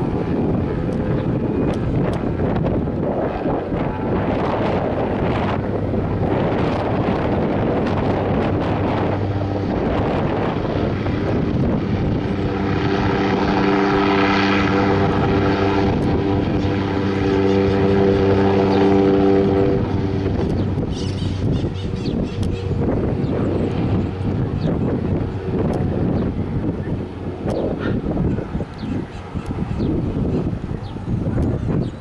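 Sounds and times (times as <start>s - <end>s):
propeller plane engine taxiing: 0.0s - 32.0s.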